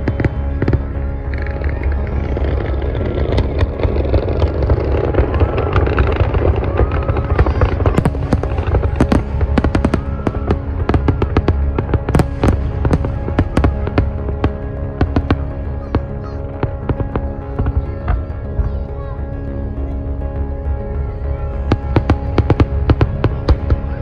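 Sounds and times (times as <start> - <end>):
fireworks bangs and cracks: 0.0 - 18.7, 21.7 - 24.0
background music: 0.0 - 24.0
low rumble: 0.0 - 24.0.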